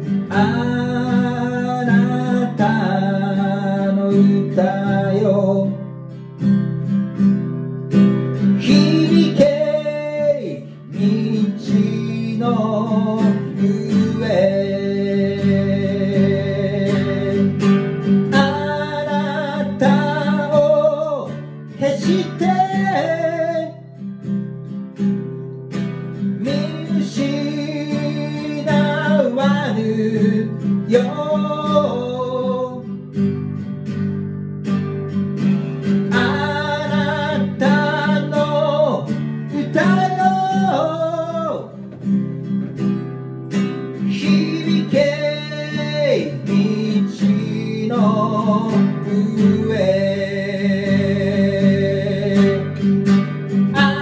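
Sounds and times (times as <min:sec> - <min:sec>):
man singing: 0:00.0 - 0:06.0, 0:08.4 - 0:24.1, 0:26.1 - 0:33.3, 0:35.4 - 0:42.8, 0:43.5 - 0:54.0
acoustic guitar strumming: 0:00.0 - 0:54.0.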